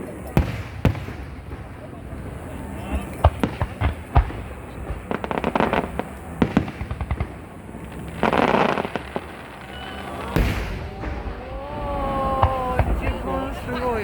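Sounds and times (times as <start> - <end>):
crackling hiss: 0.0 - 14.0
firework shells bursting with bangs: 0.0 - 14.0
rapid firework crackles: 0.0 - 14.0.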